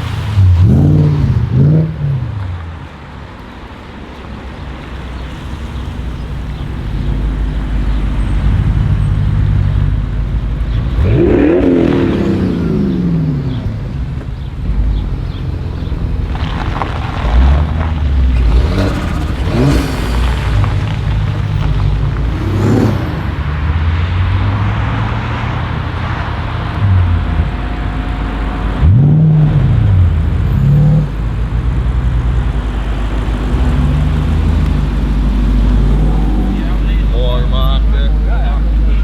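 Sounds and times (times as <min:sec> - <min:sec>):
car engine revving: 0:00.0 - 0:03.5, 0:04.4 - 0:39.0.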